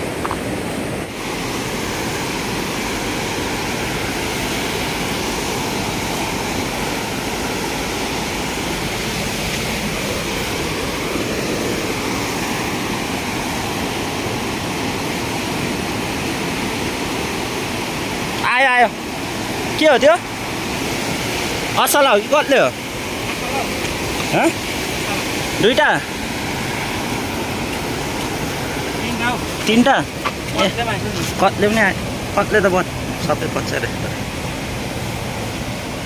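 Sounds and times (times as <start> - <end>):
river rushing over boulders: 0.0 - 36.0.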